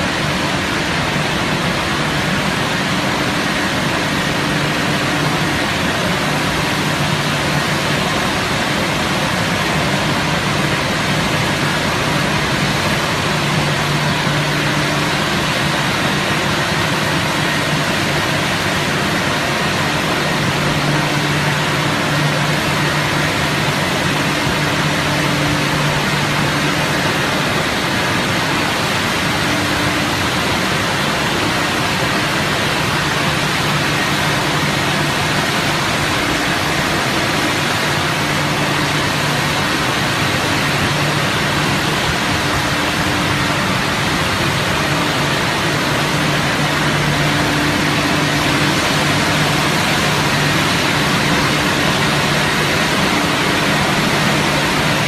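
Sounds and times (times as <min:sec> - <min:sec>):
high-pressure water spraying: 0:00.0 - 0:55.0
pump motor hum: 0:00.0 - 0:55.0.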